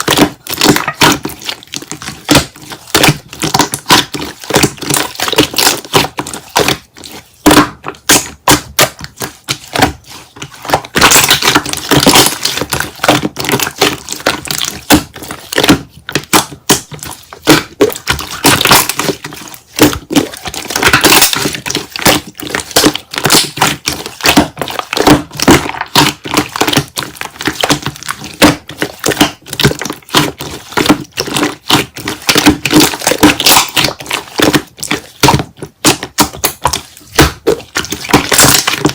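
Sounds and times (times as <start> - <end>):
slime crackling and popping: 0.0 - 38.9.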